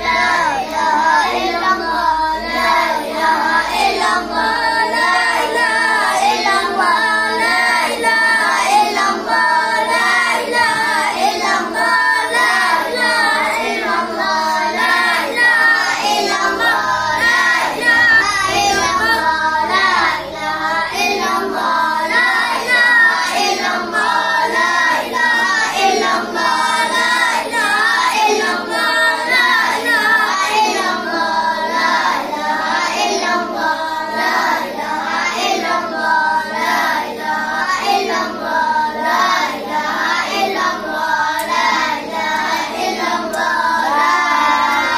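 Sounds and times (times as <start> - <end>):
boys chanting together: 0.0 - 44.9.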